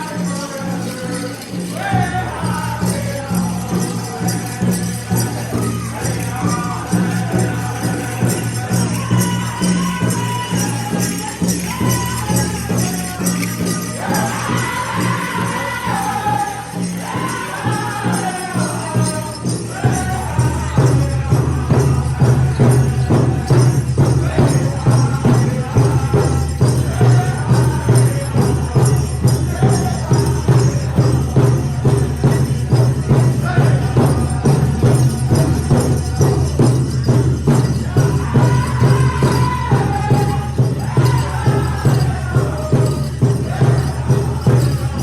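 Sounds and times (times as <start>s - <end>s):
big drum beating steadily: 0.0s - 45.0s
group singing high voices: 0.0s - 45.0s.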